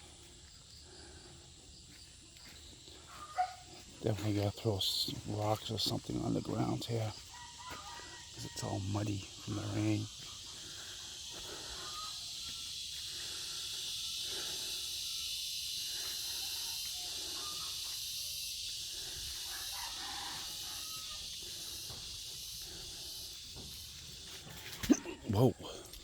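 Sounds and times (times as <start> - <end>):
insect chorus hissing: 0.0 - 26.0.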